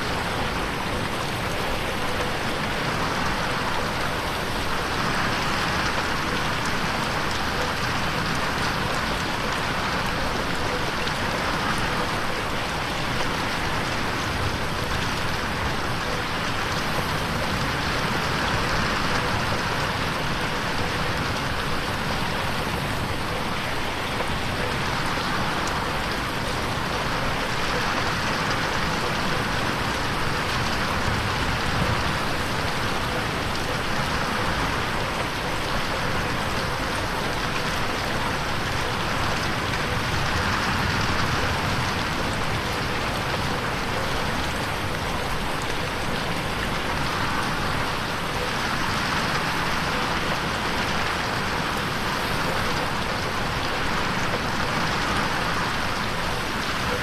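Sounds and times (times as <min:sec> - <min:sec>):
rain falling on window: 0:00.0 - 0:57.0.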